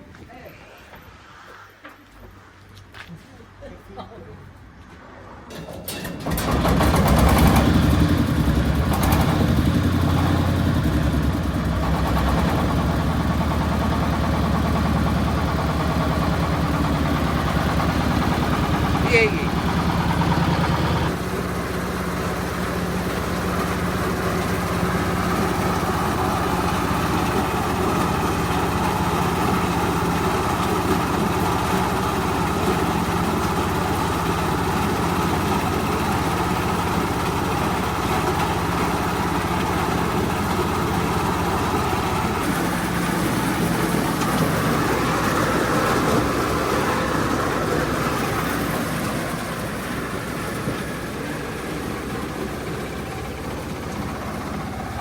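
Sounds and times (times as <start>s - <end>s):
corn sheller rushing noise: 5.5s - 55.0s
engine drone: 5.5s - 55.0s.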